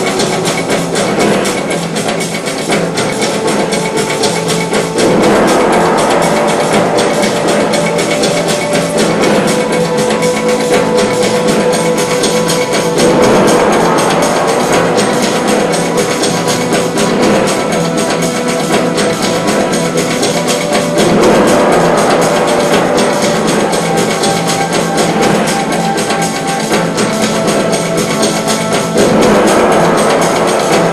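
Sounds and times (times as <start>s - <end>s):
fast drum and percussion music: 0.0s - 30.9s.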